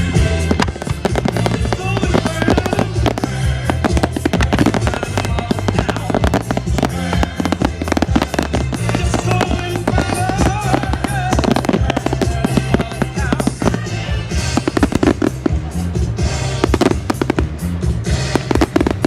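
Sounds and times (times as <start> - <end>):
fireworks bangs and crackles: 0.0 - 19.0
loud music with low beat: 0.0 - 19.0.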